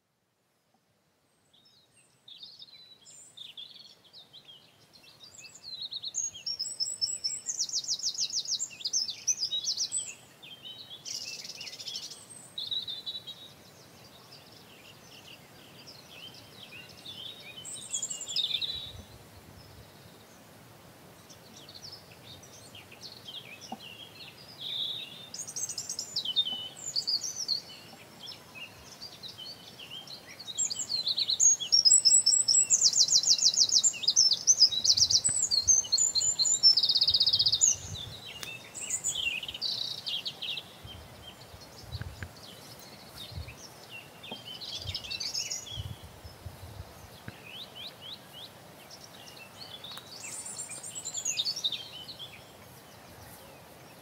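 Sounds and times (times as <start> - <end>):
songbirds singing: 0.6 - 54.0.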